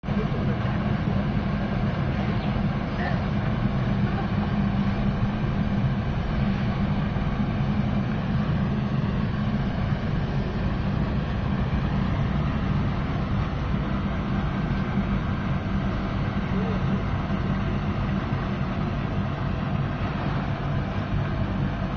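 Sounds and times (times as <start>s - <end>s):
constant low hum: 0.0s - 21.9s
furnace burner roaring: 0.0s - 21.9s.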